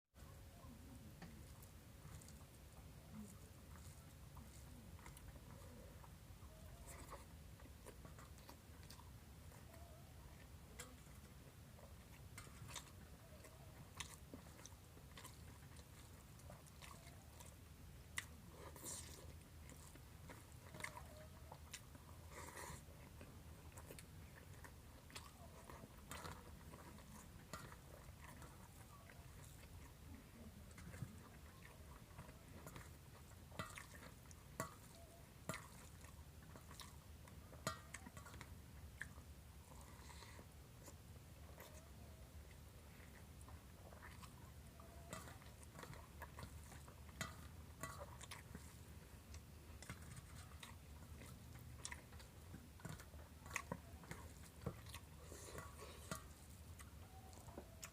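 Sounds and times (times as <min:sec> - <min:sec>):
faint low hum: 0:00.2 - 0:57.9
person chewing: 0:00.6 - 0:57.9.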